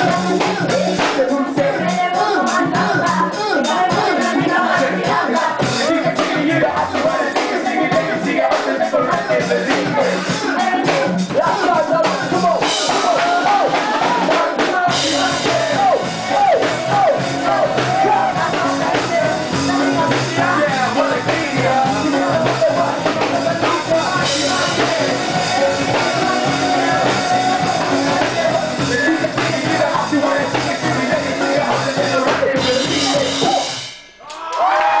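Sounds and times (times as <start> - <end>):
man and woman singing: 0.0 - 33.8
live ska-punk band: 0.0 - 35.0.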